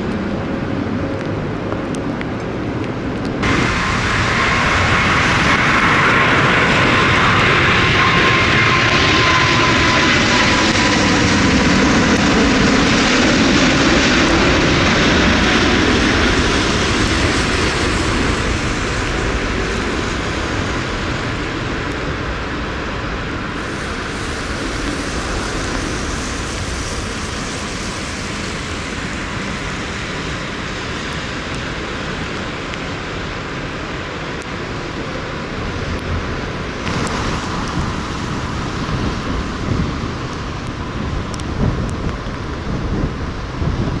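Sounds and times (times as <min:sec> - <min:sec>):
jet airliner passing: 0:00.0 - 0:44.0
steady wind noise: 0:00.0 - 0:44.0
wind gust: 0:02.6 - 0:32.2, 0:35.3 - 0:44.0.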